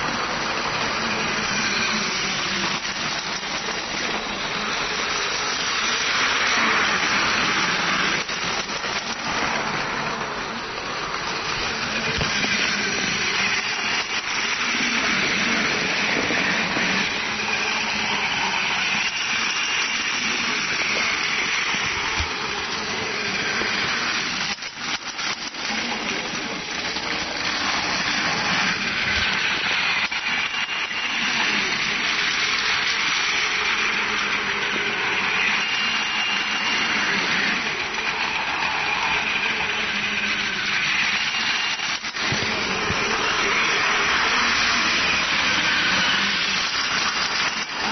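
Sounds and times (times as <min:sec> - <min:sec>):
toy train motors whirring: 0:00.0 - 0:47.9.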